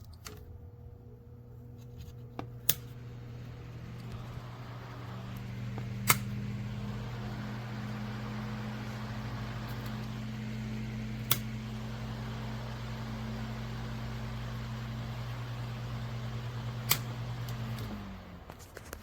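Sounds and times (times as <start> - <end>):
electric fan humming: 0.0 - 19.0.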